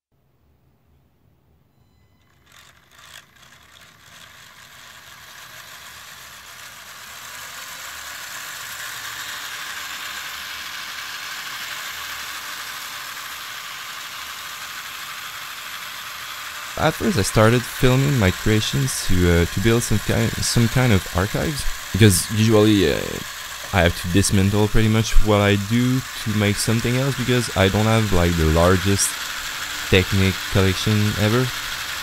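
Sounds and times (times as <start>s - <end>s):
electric motor driving gears: 2.2s - 32.0s.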